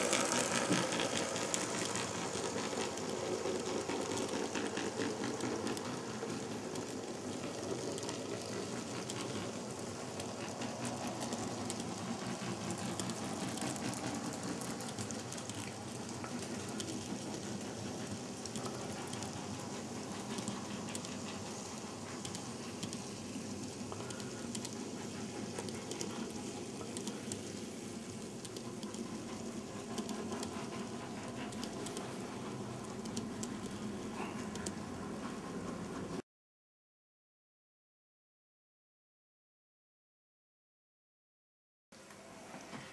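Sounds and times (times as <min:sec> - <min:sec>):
model train wheels clattering: 0:00.0 - 0:36.2.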